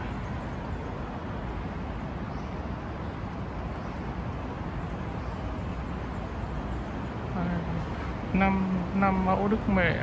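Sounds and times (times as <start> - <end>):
distant traffic hum: 0.0 - 10.0.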